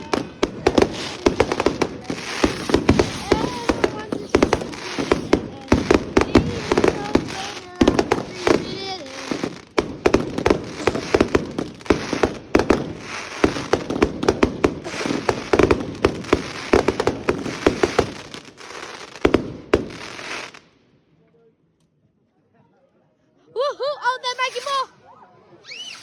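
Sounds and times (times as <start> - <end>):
fireworks bangs: 0.0 - 20.8, 24.2 - 24.9
fireworks crackle: 0.0 - 20.9, 24.1 - 25.0, 25.7 - 26.0.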